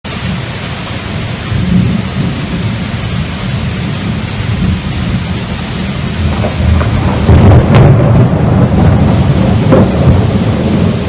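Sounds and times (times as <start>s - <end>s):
heavy rain: 0.0s - 11.0s
thunder rumbling: 0.1s - 11.0s.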